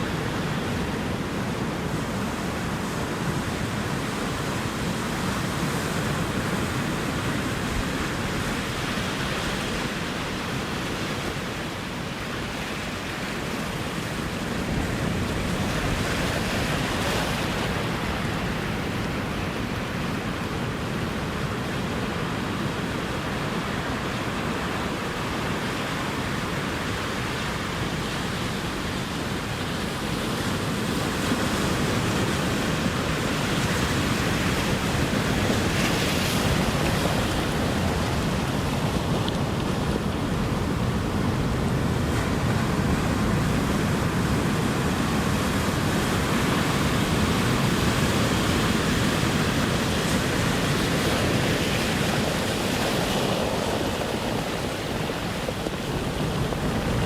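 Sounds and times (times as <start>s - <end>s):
waves washing on shore: 0.0s - 57.0s.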